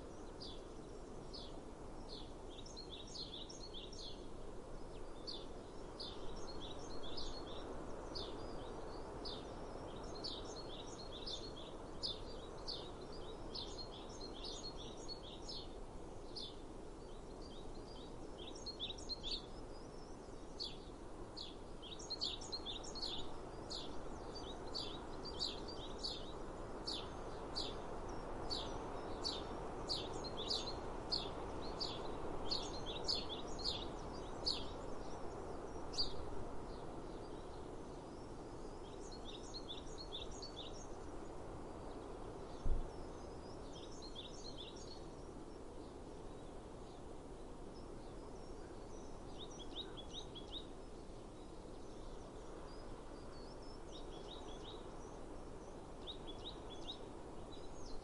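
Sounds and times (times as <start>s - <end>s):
outdoor background noise: 0.0s - 58.0s
small birds chirping: 0.0s - 58.0s.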